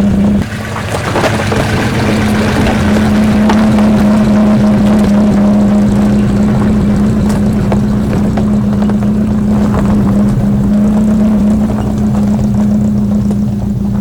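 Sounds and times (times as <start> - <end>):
car engine droning: 0.0 - 14.0
low road rumble: 0.0 - 14.0.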